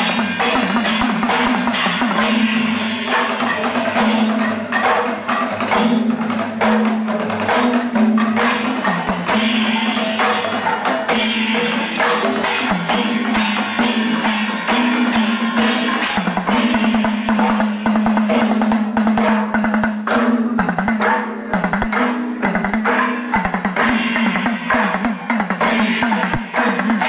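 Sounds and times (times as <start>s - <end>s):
hand cymbals clashing: 0.0s - 27.0s
rapid drum strokes: 0.0s - 27.0s.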